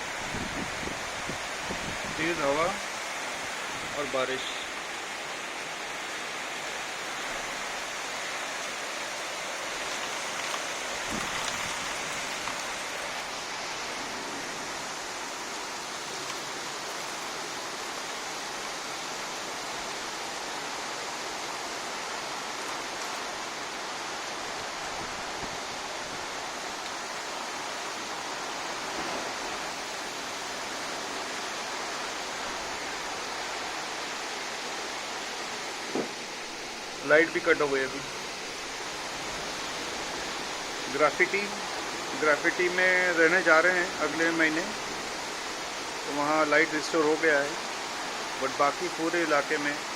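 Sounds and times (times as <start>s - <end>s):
heavy rain downpour: 0.0s - 49.9s.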